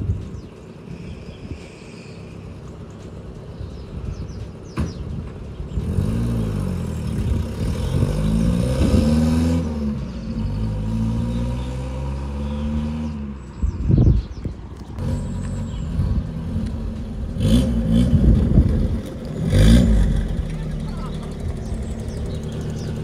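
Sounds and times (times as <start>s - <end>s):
car engine accelerating: 2.2s - 13.7s, 14.8s - 23.0s.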